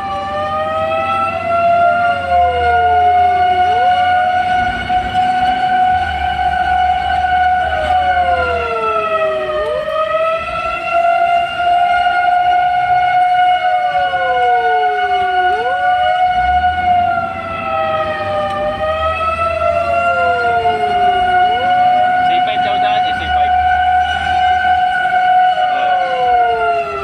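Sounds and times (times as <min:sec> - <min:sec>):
fire engine sirens: 0:00.0 - 0:27.0
low engine rumble: 0:00.0 - 0:27.0.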